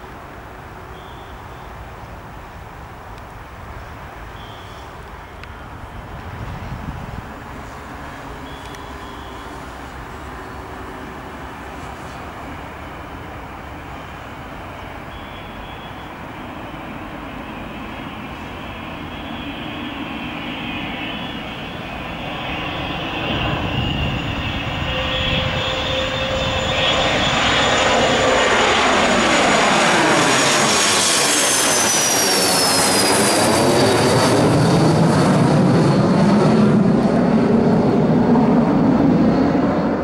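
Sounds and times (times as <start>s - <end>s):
jet taking off: 3.6s - 40.0s.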